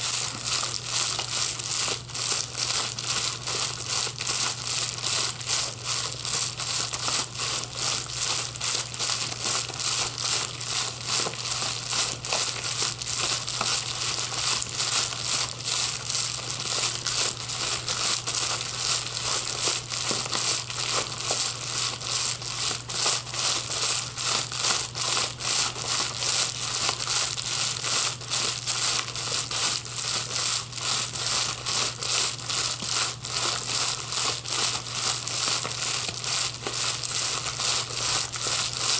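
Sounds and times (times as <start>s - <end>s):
plastic wrapping crinkling: 0.0s - 38.9s
steady low hum: 0.0s - 38.9s.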